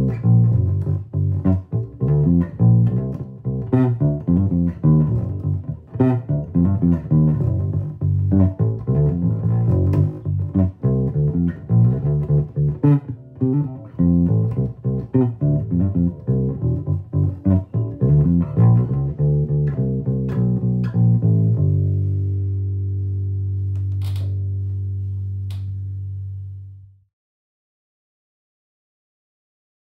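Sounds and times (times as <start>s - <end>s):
electric bass guitar plucked notes: 0.0s - 27.0s.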